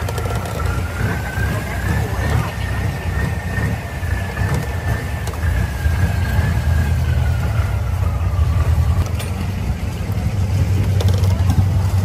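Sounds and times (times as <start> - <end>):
high-pitched whine: 0.0 - 12.0
motorboat engine rumbling: 0.0 - 12.0.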